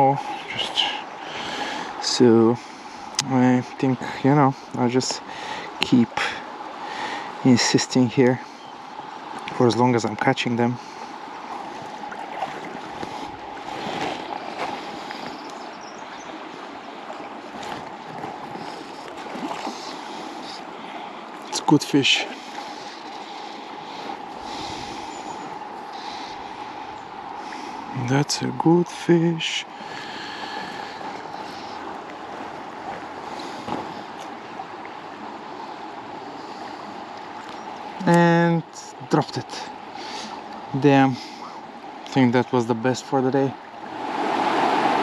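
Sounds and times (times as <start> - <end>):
river water running: 0.0 - 45.0.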